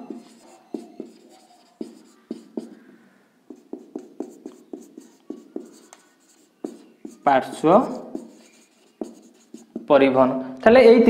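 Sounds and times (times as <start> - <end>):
marker writing on whiteboard: 0.0 - 10.1.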